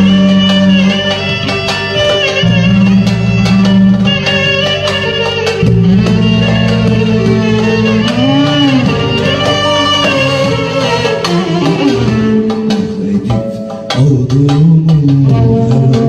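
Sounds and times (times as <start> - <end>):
hand drum strikes: 0.0 - 16.0
live band playing: 0.0 - 16.0.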